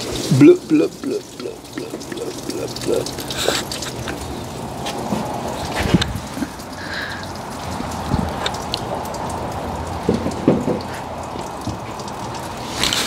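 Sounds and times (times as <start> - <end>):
coolant dripping into bucket: 0.0 - 13.0.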